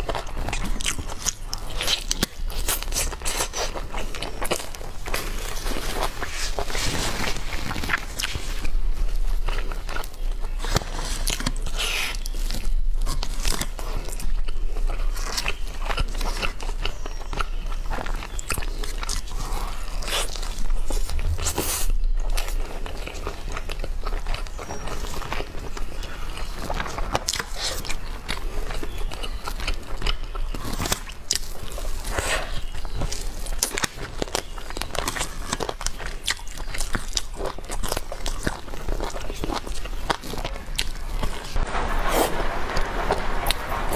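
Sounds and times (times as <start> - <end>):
person crunching and chewing: 0.0 - 43.9.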